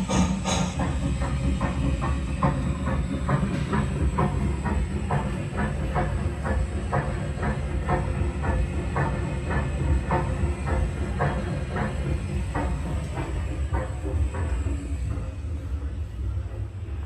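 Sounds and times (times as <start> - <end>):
steam hiss: 0.0 - 15.6
steam locomotive chugging: 0.0 - 17.0.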